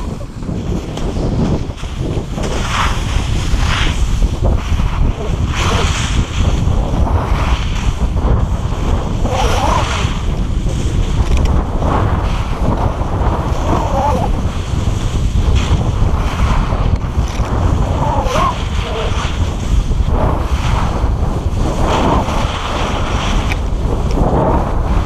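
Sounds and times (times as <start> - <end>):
skis scraping on snow: 0.0 - 25.0
wind buffeting microphone: 0.0 - 25.0.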